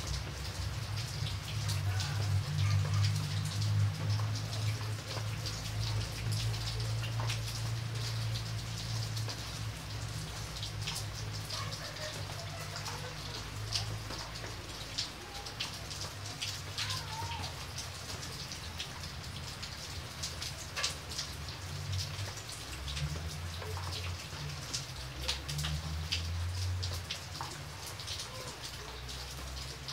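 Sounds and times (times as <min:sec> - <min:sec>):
rain on puddle: 0:00.0 - 0:29.9.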